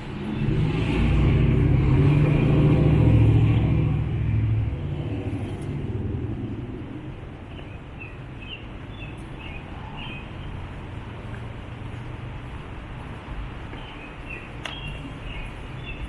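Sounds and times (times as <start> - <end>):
passing car rumble: 0.0 - 16.0.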